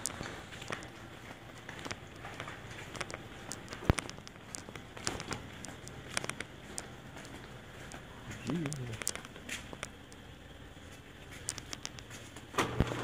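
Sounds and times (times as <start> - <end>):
footsteps walking: 0.0 - 12.5.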